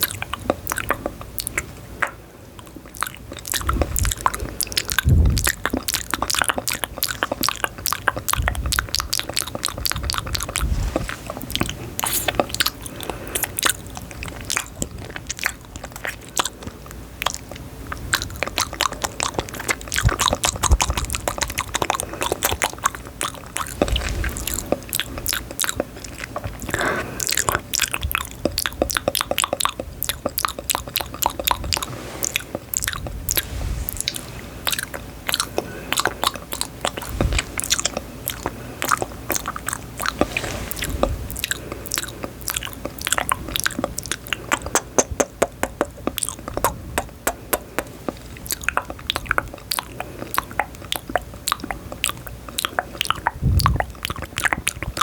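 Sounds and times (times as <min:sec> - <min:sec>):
chewing crunchy food: 0:00.0 - 0:55.0.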